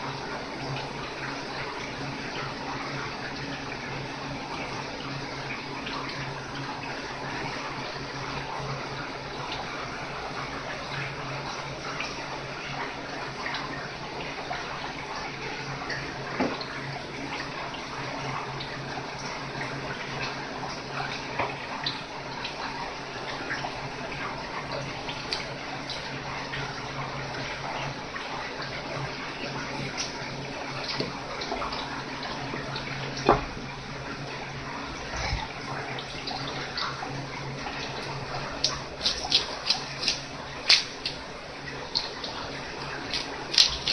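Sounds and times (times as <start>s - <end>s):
tap water running: 0.0s - 43.9s.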